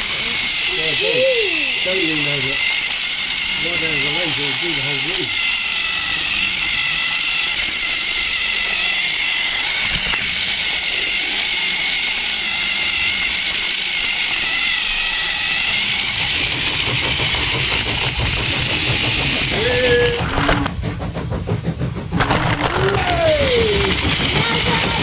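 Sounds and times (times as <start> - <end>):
toy train motor whine: 0.0 - 25.0
wheels rattling on plastic track: 0.0 - 25.0.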